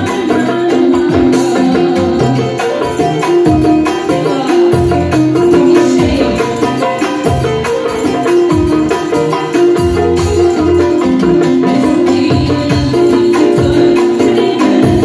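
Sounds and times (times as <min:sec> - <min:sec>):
electronic keyboard melody: 0:00.0 - 0:15.0
frame drum with jingles: 0:00.0 - 0:15.0.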